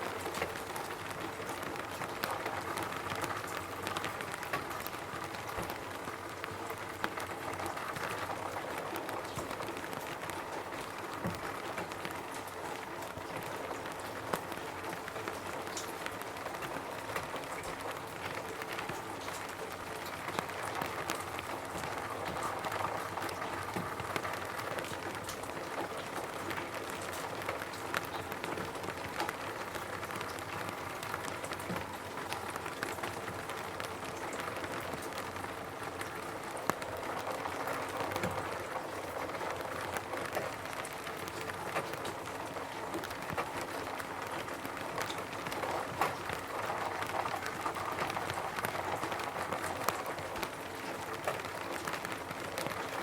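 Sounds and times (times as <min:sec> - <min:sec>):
rain pattering on a roof: 0:00.0 - 0:53.0.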